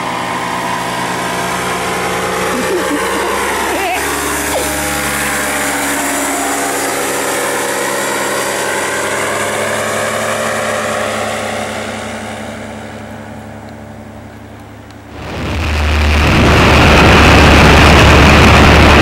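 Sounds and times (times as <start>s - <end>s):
paramotor engine and propeller: 0.0s - 19.0s.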